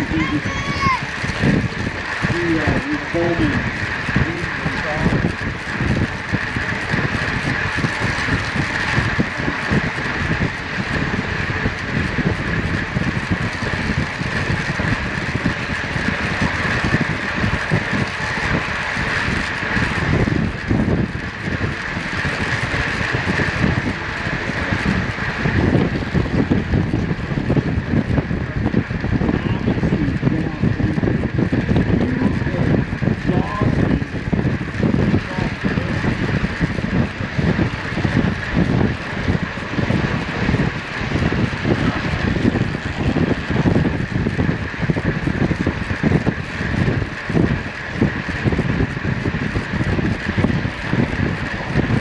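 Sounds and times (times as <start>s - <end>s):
bicycle drivetrain and tyres whirring: 0.0s - 52.0s
wind buffeting microphone: 0.0s - 52.0s.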